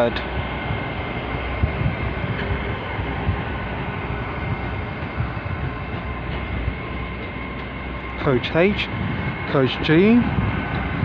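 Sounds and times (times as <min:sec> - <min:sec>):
train engines and wheels rumbling: 0:00.0 - 0:11.0.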